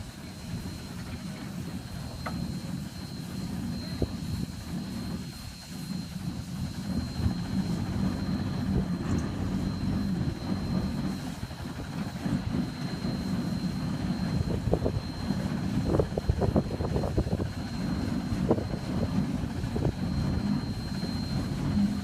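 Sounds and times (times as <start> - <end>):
machinery low rumble: 0.0 - 22.0.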